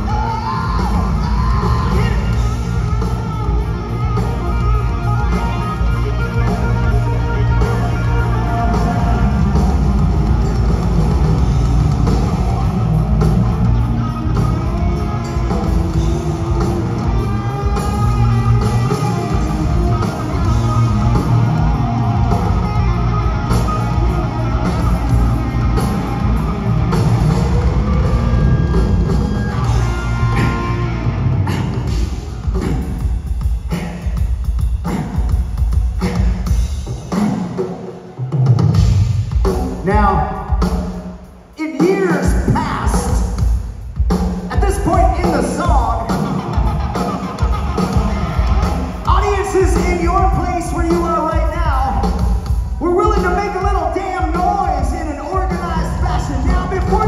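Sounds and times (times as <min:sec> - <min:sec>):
electric guitar lead: 0:00.0 - 0:33.7, 0:45.0 - 0:57.0
hard rock band playing: 0:00.0 - 0:57.0.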